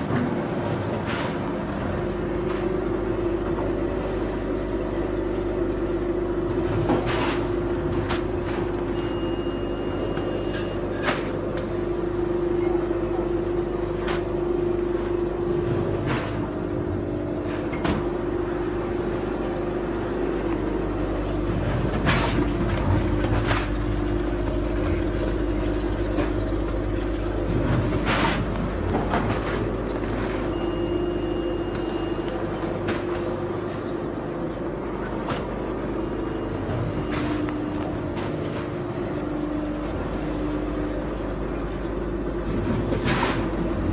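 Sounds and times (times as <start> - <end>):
packing machine humming: 0.0 - 43.9.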